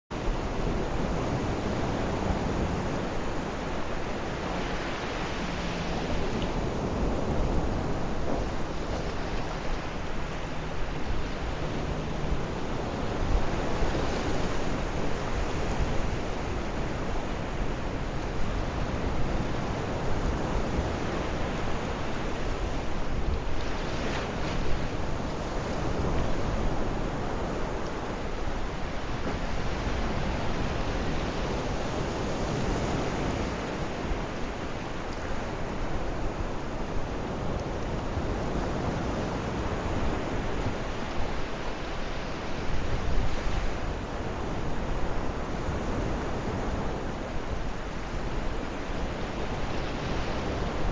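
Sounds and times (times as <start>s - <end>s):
wind noise on microphone: 0.0s - 50.9s
sea waves washing on shore: 0.1s - 50.9s.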